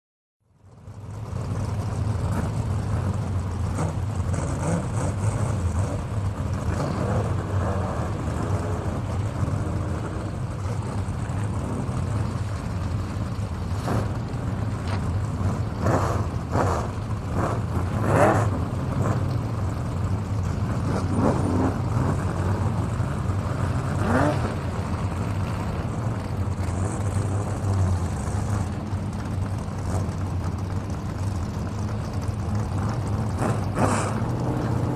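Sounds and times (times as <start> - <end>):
car engines droning: 0.4 - 34.9
cars revving and sweeping past: 0.9 - 34.9.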